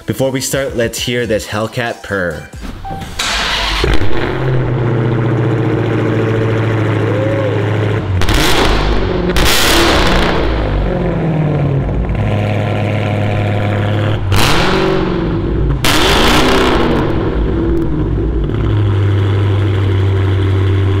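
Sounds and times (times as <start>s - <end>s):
engine revving blips: 2.9s - 21.0s
car engine idling: 3.2s - 21.0s.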